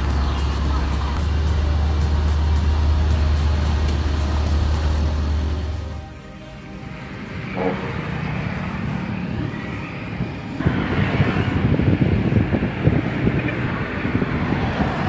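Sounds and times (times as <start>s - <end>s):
heavy truck engine running: 0.0s - 15.0s.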